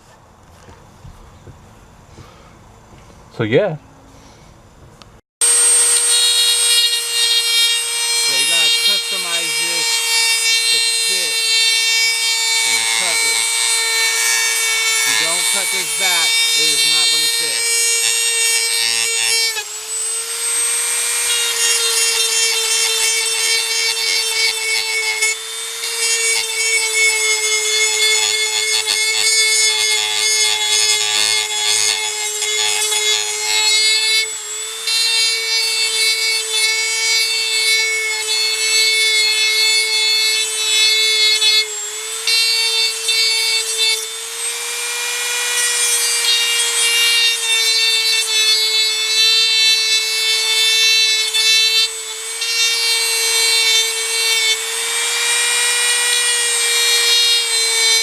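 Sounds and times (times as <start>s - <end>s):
power tool whining: 0.0s - 58.0s.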